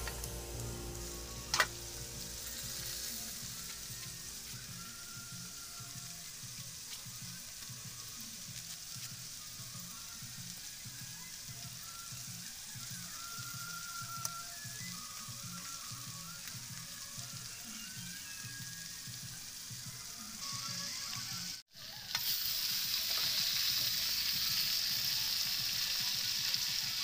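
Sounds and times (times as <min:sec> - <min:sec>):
fish sizzling in a wok: 0:00.0 - 0:27.0.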